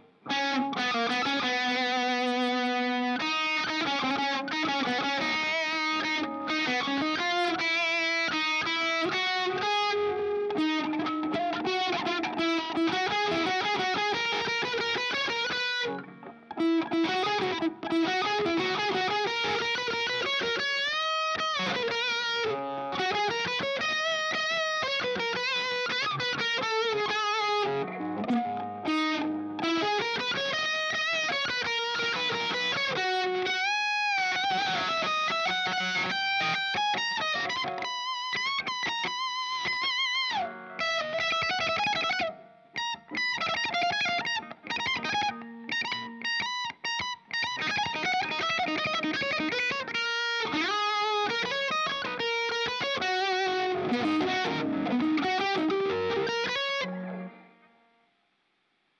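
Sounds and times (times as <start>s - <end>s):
overdriven electric guitar lead: 0.0s - 57.9s.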